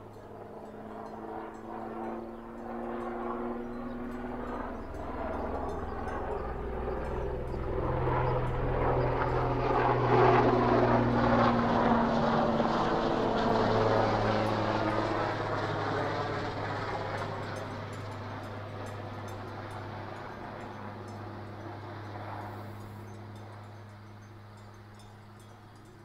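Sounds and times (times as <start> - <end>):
helicopter flying overhead: 0.0 - 26.0.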